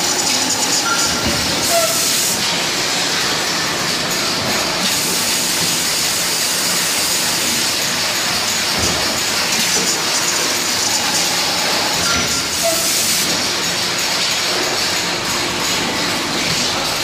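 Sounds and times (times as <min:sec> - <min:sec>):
hydraulic presses running: 0:00.0 - 0:17.0.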